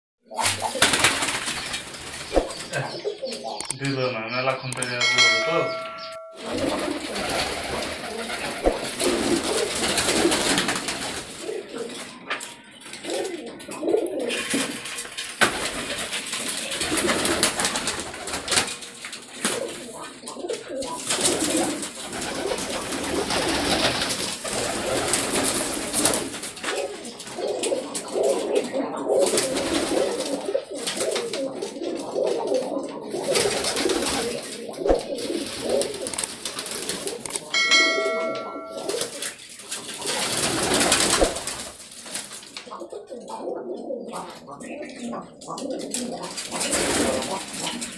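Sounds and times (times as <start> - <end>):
pigeons cooing: 0.3 - 3.8, 4.6 - 47.9.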